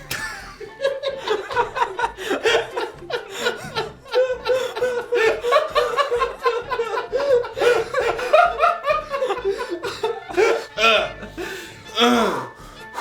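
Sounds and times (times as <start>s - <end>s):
man chuckling: 0.0s - 12.5s.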